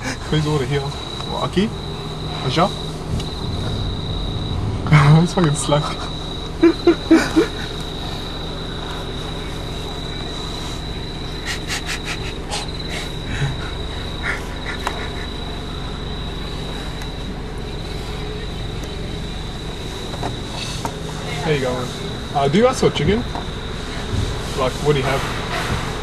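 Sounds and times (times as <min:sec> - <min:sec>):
car engine idling: 0:00.0 - 0:26.0
crickets trilling: 0:00.0 - 0:26.0.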